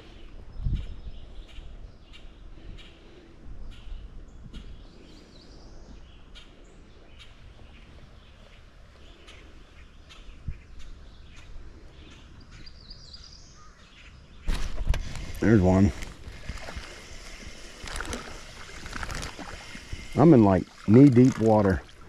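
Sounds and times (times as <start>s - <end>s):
small birds chirping: 0.0s - 21.7s
faint outdoor background noise: 0.0s - 22.0s.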